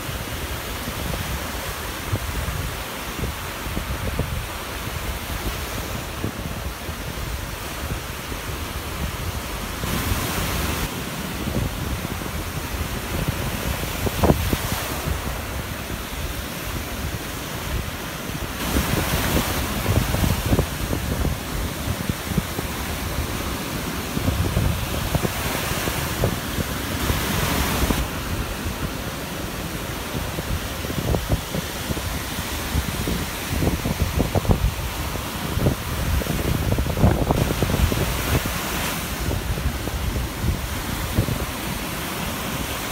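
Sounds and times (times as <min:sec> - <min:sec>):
sea surf breaking: 0:00.0 - 0:42.9
wind rumbling on microphone: 0:00.0 - 0:42.9.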